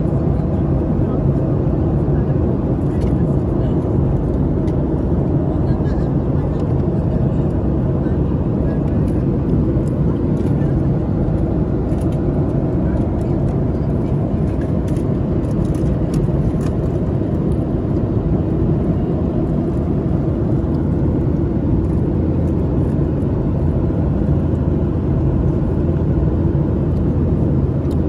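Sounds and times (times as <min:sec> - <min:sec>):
jet engine and airflow roar: 0:00.0 - 0:28.0.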